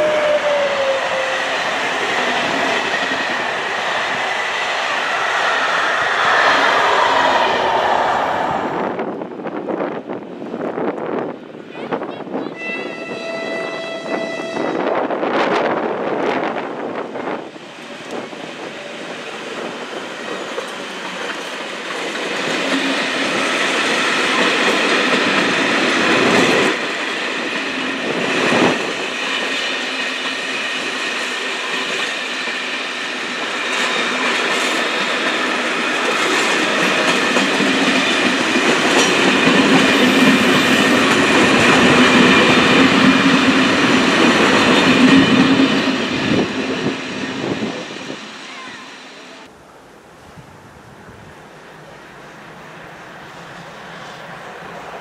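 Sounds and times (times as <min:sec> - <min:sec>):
train wheels rumbling and clacking: 0:00.0 - 0:11.3, 0:14.5 - 0:48.8.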